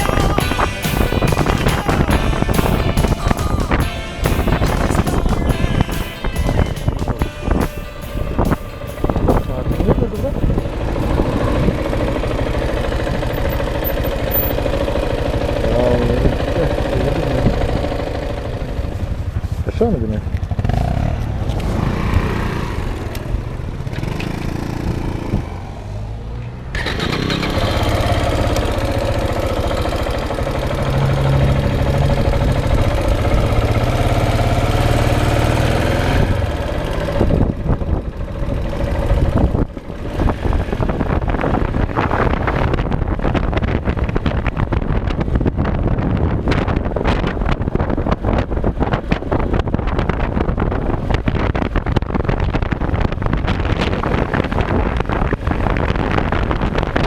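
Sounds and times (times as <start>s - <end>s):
wind buffeting microphone: 0.0s - 26.2s, 28.2s - 57.0s
motorcycle engine running: 0.0s - 57.0s.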